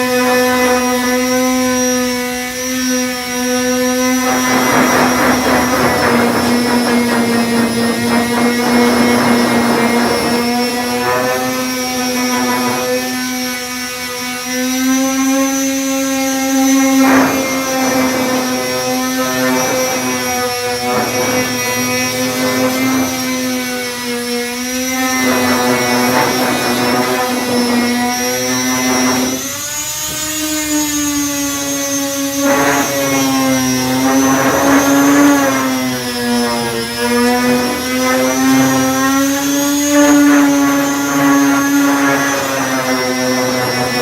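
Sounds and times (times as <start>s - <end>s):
orbital sander running: 0.0s - 44.0s
sanding disc rasping on filler: 2.7s - 44.0s.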